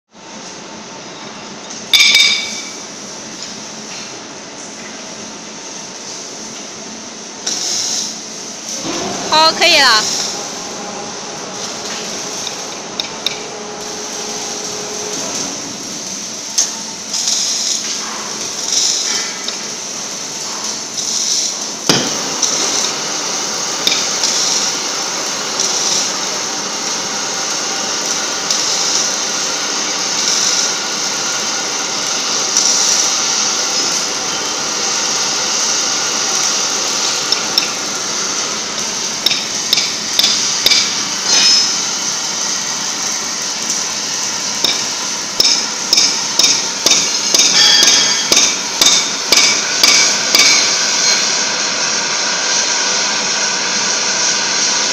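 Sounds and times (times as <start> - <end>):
cutting torch hissing: 7.4 - 54.9.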